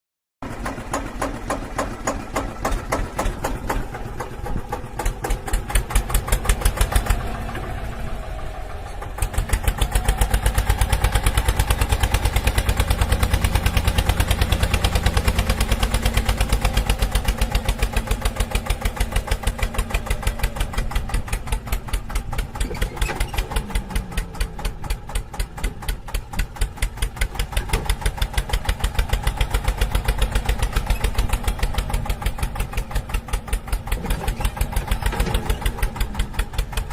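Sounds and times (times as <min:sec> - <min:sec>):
small tractor engine pulsing: 0:00.4 - 0:36.9.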